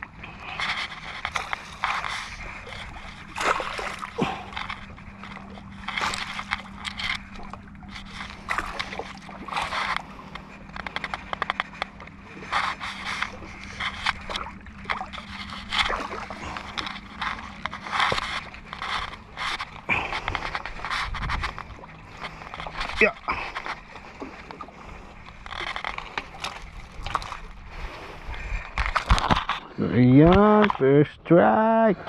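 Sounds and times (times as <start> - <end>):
waves lapping against rocks: 0.0 - 30.9.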